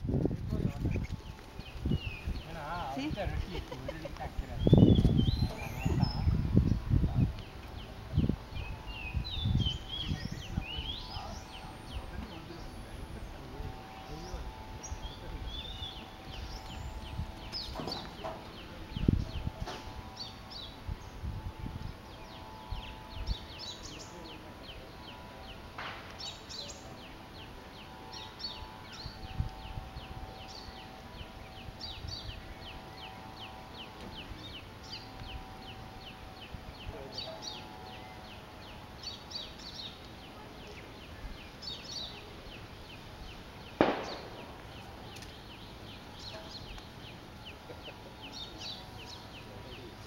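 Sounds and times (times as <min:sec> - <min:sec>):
faint steady tones: 0:00.0 - 0:50.0.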